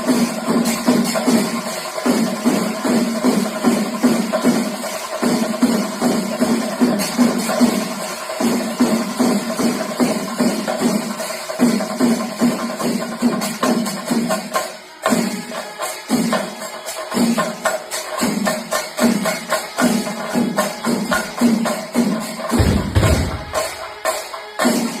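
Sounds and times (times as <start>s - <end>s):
drums beaten with sticks: 0.0s - 25.0s.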